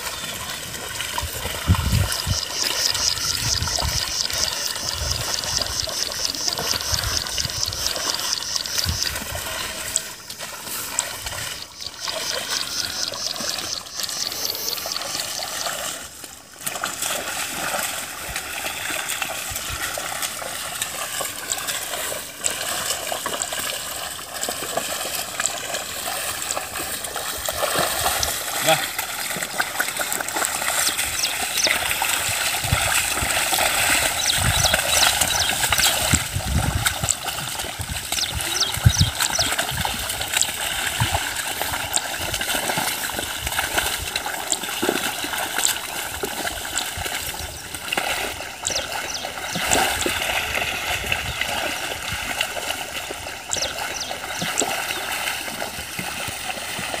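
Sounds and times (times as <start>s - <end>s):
muddy water splashing: 0.0s - 57.0s.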